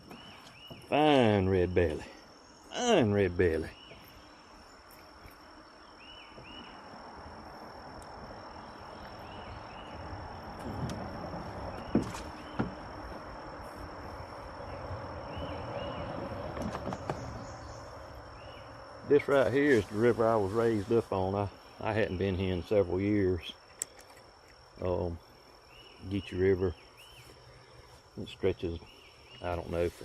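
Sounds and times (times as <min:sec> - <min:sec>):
insects droning and chirping: 0:00.0 - 0:30.0.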